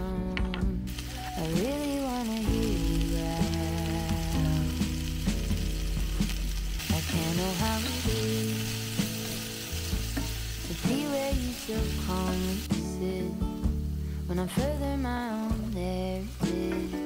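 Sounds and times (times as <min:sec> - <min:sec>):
vegetables sizzling in a skillet: 0:00.9 - 0:17.0.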